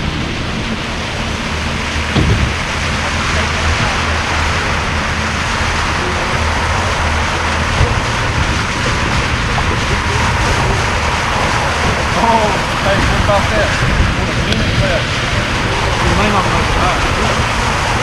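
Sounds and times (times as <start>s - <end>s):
low motor hum: 0.0s - 18.0s
wind and water rush: 0.0s - 18.0s.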